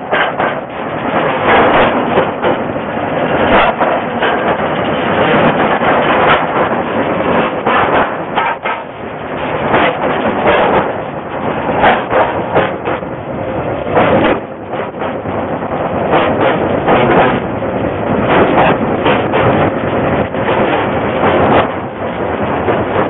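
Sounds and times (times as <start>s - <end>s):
steel wheels running on rails: 0.0s - 23.0s
wheels clacking over rail joints: 0.0s - 23.0s.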